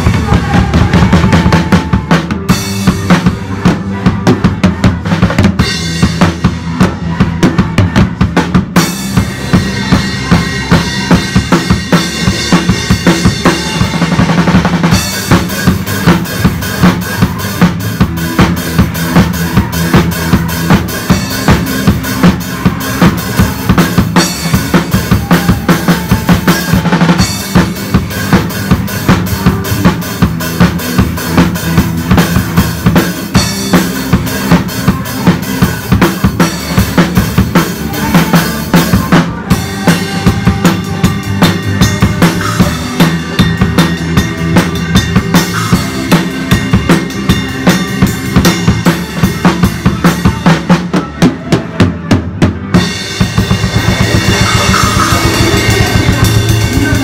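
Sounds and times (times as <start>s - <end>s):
band playing: 0.0s - 57.0s
drum kit playing a groove: 0.0s - 57.0s.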